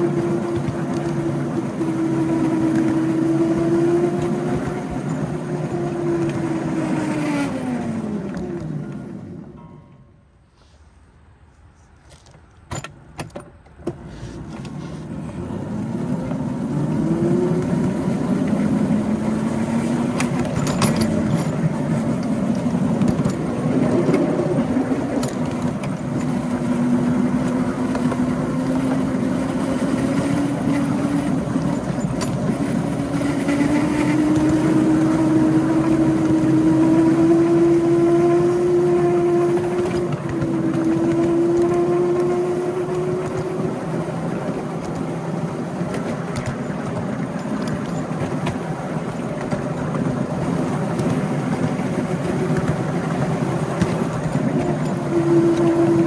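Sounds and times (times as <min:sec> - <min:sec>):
miniature train running on track: 0:00.0 - 0:10.1, 0:14.0 - 0:56.0.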